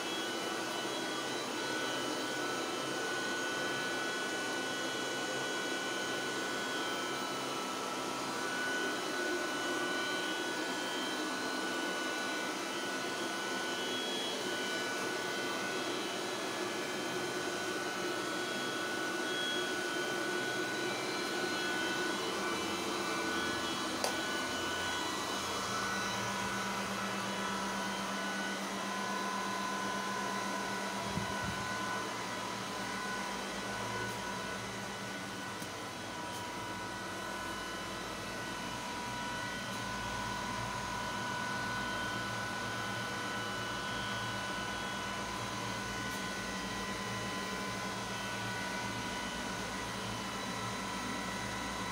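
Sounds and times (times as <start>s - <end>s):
cooling fans whirring: 0.0s - 51.9s.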